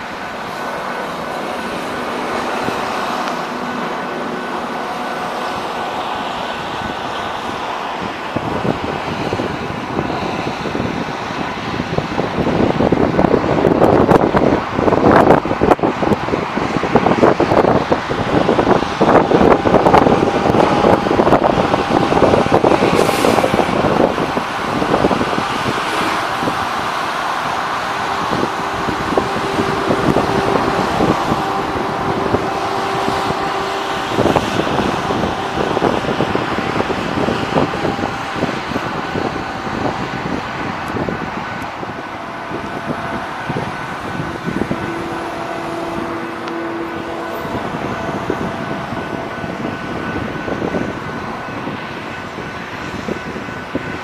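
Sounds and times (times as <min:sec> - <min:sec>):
rail machines engines running: 0:00.0 - 0:54.0
steady whining tones: 0:00.0 - 0:54.0.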